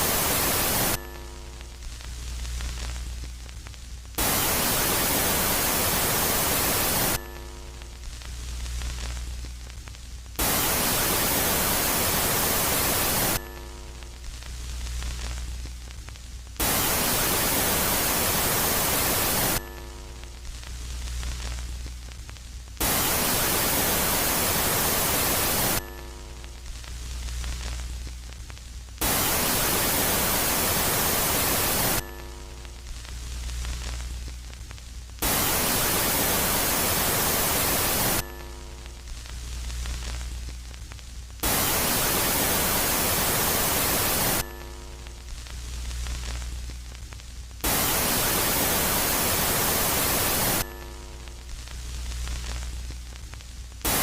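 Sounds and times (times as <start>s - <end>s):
hiss-like static: 0.0s - 54.0s
low hum with steady tones: 0.0s - 54.0s.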